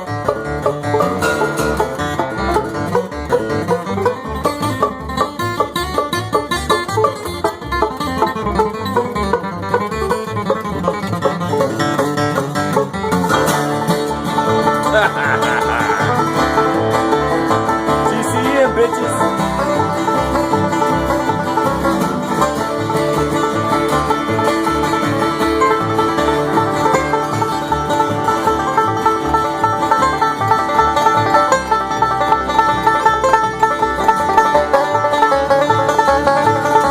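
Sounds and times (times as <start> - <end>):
banjo: 0.0 - 36.9
bluegrass band playing: 0.0 - 36.9.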